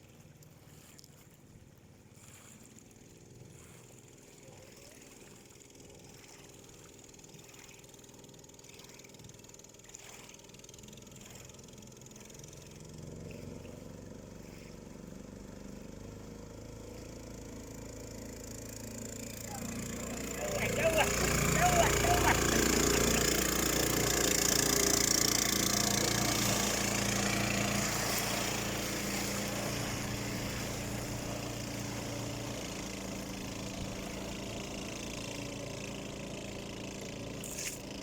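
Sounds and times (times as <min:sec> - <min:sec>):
swamp buggy engine running: 0:01.7 - 0:38.0.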